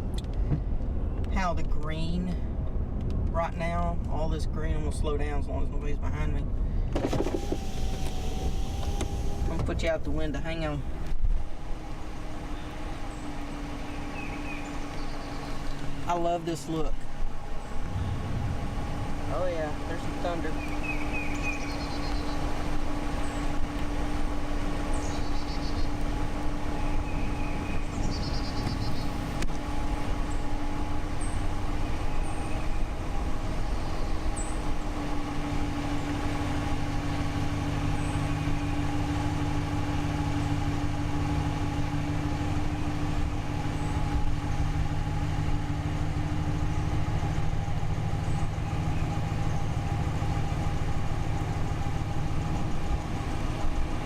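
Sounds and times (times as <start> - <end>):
car engine and tyre rumble: 0.0 - 54.0
deep steady engine note: 0.0 - 54.0.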